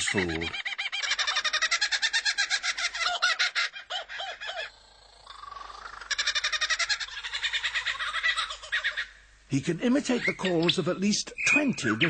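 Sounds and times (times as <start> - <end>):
bird laughing call: 0.0 - 9.2, 10.0 - 10.8.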